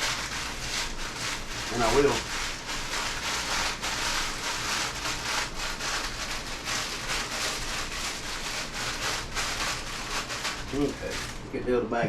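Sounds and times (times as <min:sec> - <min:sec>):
plastic bag rustling: 0:00.0 - 0:11.5.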